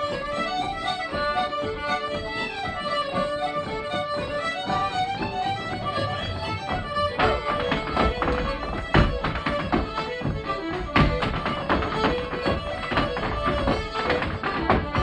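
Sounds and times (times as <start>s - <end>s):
accordion: 0.0s - 15.0s
fiddle: 0.0s - 15.0s
folk ensemble playing lively tune: 0.0s - 15.0s
sharp tap: 0.0s - 15.0s.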